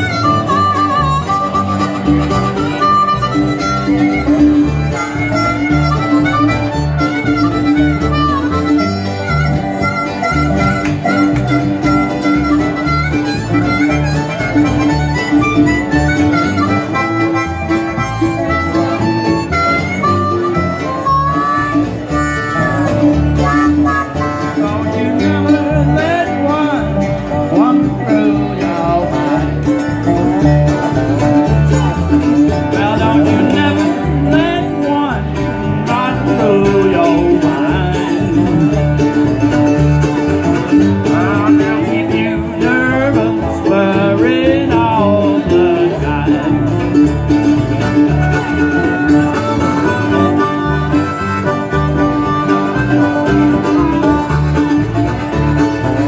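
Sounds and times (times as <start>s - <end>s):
acoustic blues band playing: 0.0s - 56.0s
dobro solo with sliding notes: 0.0s - 56.0s.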